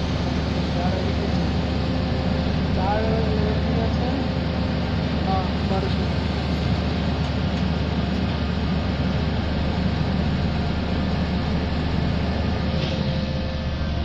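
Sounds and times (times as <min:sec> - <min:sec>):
pile driving rig engine running: 0:00.0 - 0:14.0.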